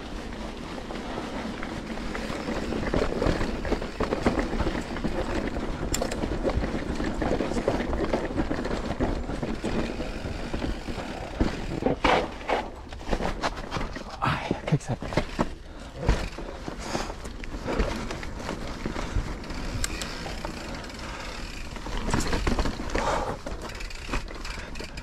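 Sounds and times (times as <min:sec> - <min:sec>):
bike rattling and knocking: 0:00.0 - 0:25.0
bike tyre noise on trail: 0:00.0 - 0:25.0.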